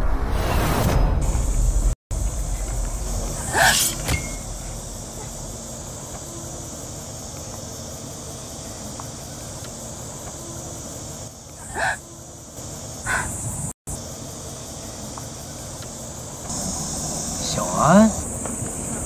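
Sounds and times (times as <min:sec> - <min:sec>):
high insect drone: 0:01.4 - 0:19.0.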